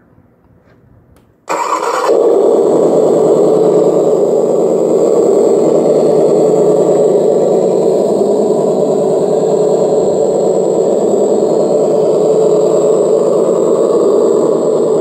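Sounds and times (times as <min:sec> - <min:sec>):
electronic engine sound from speaker: 0:01.5 - 0:15.0.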